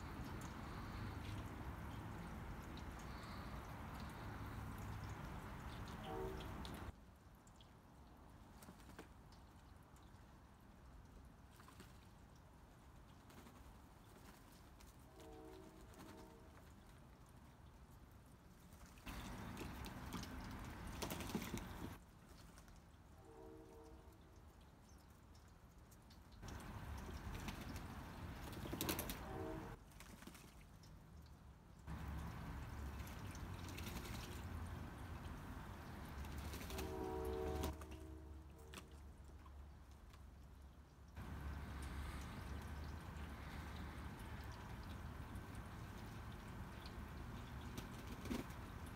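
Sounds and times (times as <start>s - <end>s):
pigeons splashing water: 0.0s - 48.9s
water drips and trickles: 0.0s - 48.9s.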